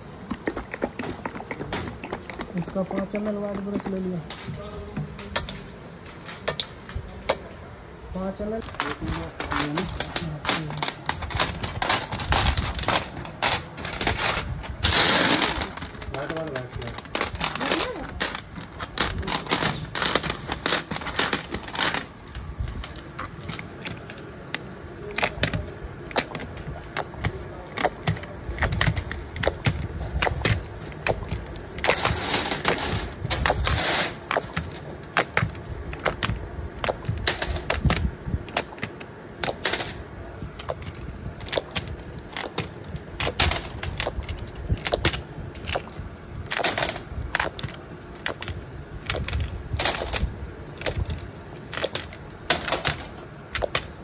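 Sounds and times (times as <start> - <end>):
small plastic parts clattering: 8.5 - 54.0.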